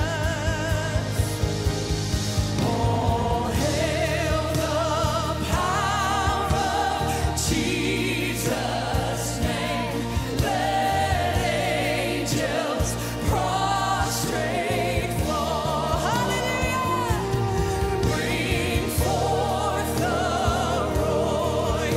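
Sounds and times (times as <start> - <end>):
band with drums: 0.0 - 21.9
choir and backing singers: 0.0 - 21.9.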